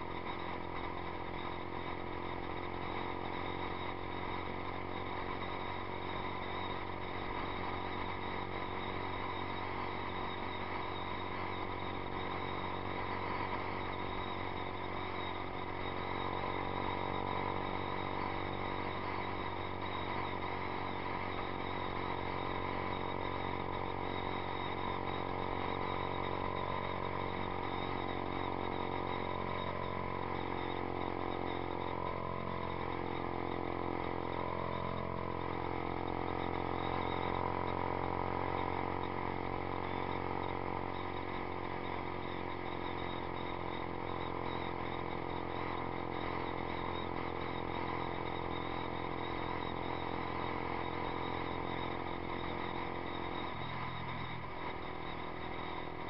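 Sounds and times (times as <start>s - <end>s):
motorcycle engine cruising: 0.0s - 56.0s
road noise: 0.0s - 56.0s.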